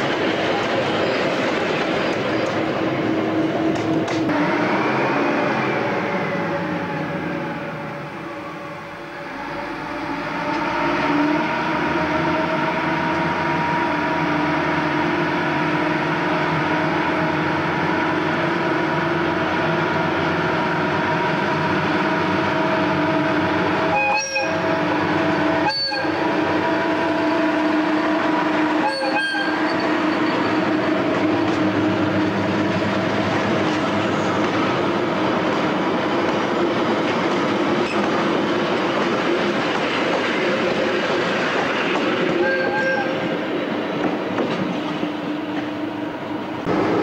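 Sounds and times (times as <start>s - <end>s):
diesel locomotive engine: 0.0s - 47.0s.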